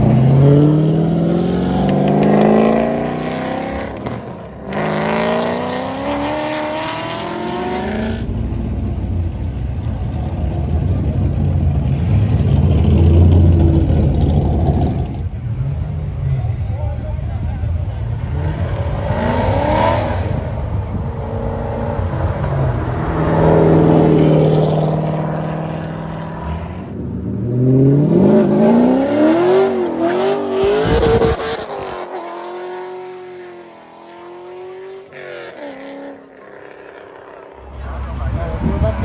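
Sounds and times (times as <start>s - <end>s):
loud car engine revving: 0.0s - 15.4s, 18.2s - 39.0s.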